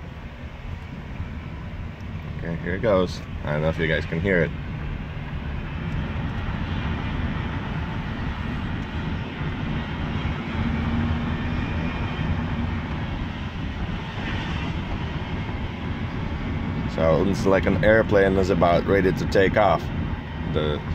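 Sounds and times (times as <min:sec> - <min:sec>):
differential whining: 0:00.0 - 0:20.9
engine noise: 0:00.0 - 0:20.9.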